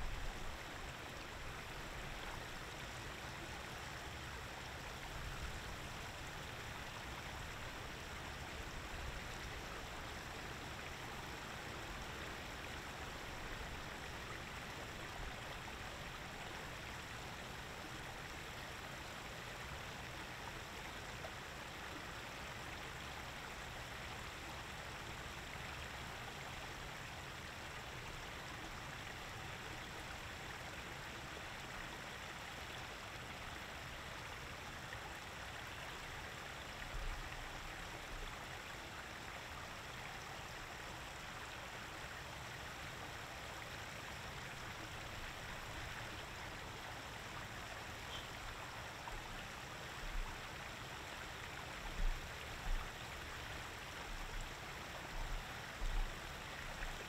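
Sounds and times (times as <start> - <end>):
creek water cascading: 0.0 - 57.0.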